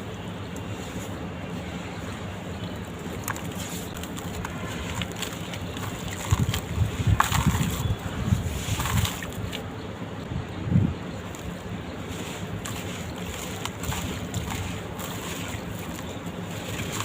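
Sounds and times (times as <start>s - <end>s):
dirt crumbling and crackling: 0.5s - 9.7s, 11.2s - 17.0s.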